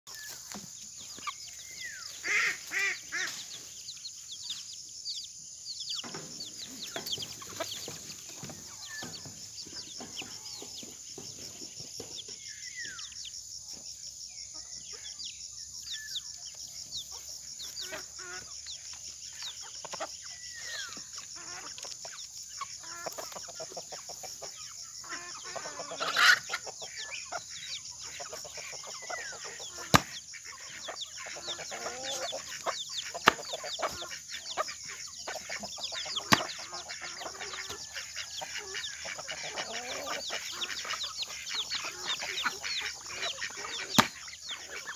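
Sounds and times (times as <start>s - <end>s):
chickens clucking and calling: 0.1s - 44.9s.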